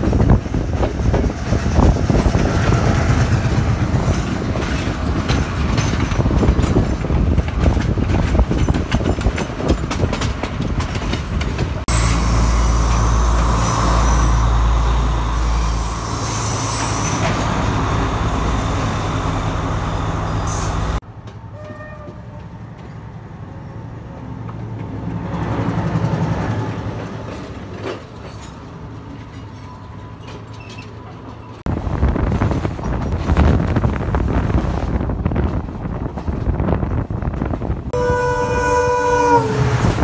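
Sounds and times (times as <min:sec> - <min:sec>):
diesel locomotive passing: 0:00.0 - 0:40.0
passenger train passing: 0:00.0 - 0:40.0.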